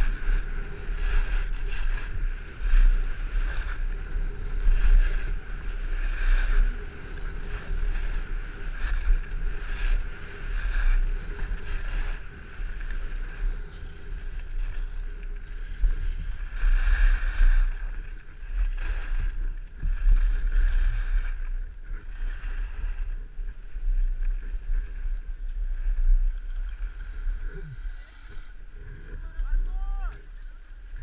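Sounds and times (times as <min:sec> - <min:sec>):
skis scraping over snow: 0:00.0 - 0:31.0
wind buffeting microphone: 0:00.0 - 0:31.0.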